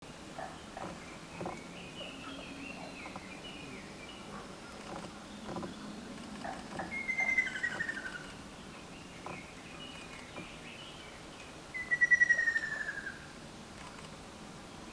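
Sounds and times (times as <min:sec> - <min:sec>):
faint bird calls: 0:00.4 - 0:11.0, 0:11.7 - 0:13.3.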